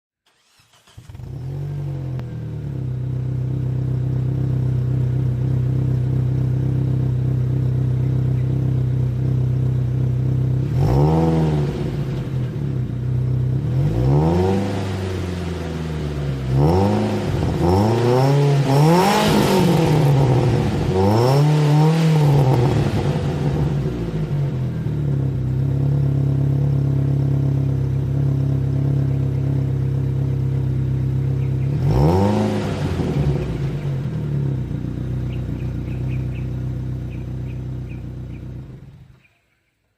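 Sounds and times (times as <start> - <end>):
car engine idling and revving: 0.2 - 39.3.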